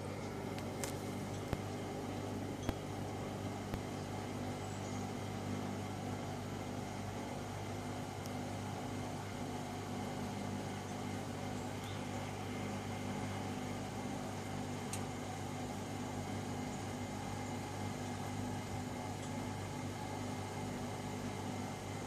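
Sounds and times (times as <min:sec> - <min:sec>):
washing machine motor humming: 0:00.0 - 0:22.0.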